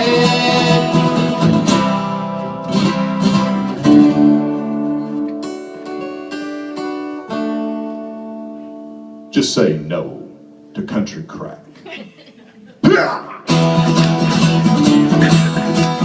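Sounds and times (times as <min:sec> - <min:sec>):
acoustic guitar chords: 0:00.0 - 0:11.8, 0:12.8 - 0:16.0.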